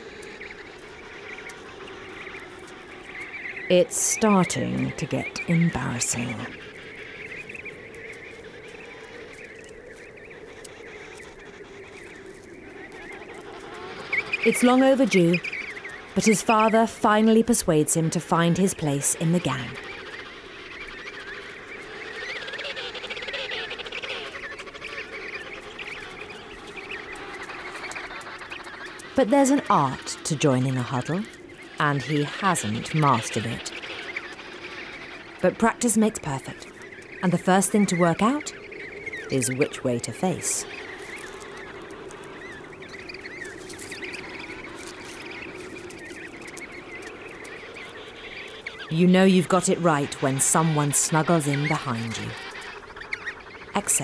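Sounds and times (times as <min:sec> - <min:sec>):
lower penguin calls: 0:00.0 - 0:54.0
penguin chicks whistling: 0:00.0 - 0:54.0.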